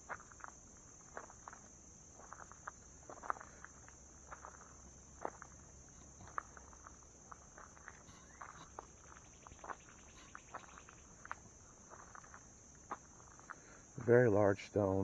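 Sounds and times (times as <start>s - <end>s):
faint footsteps: 0.0s - 15.0s
high insect drone: 0.0s - 15.0s.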